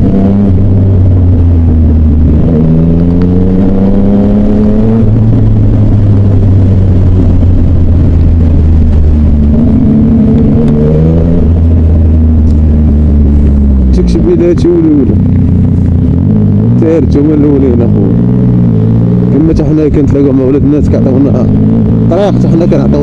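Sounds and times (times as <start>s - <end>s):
low traffic rumble: 0.0s - 23.0s
motorcycle engine accelerating: 0.0s - 23.0s.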